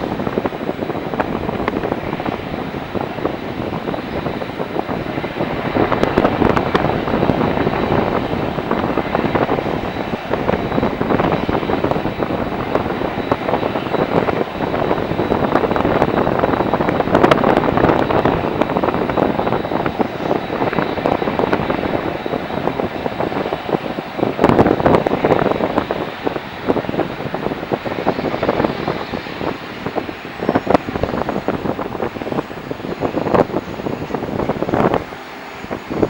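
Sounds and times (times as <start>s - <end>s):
jet engines passing close: 0.0s - 36.0s.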